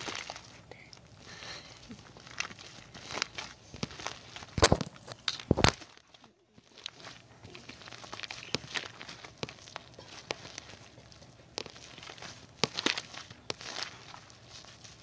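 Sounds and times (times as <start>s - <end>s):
hands squishing slime: 0.0s - 15.0s.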